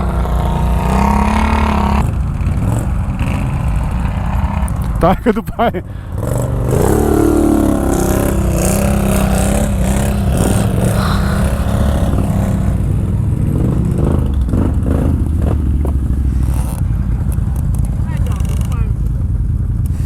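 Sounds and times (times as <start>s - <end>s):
atv engine at low revs: 0.0s - 20.0s.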